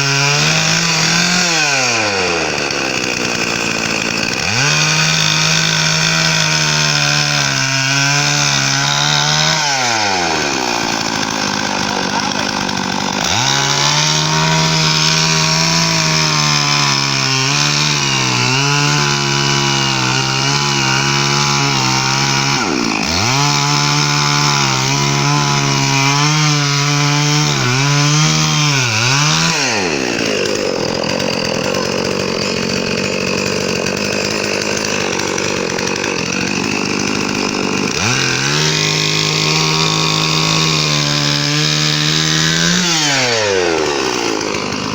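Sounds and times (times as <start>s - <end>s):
electric drill motor revving: 0.0s - 44.9s
harsh unpitched grinding: 0.0s - 44.9s.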